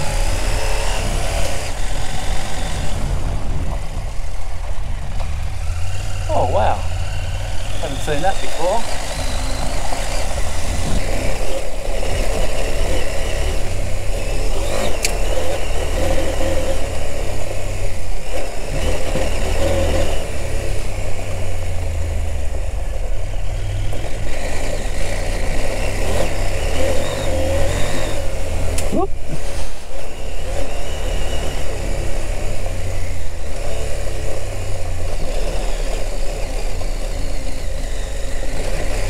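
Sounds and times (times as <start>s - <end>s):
motorcycle engine running: 0.0s - 39.0s
wind and road noise: 0.0s - 39.0s.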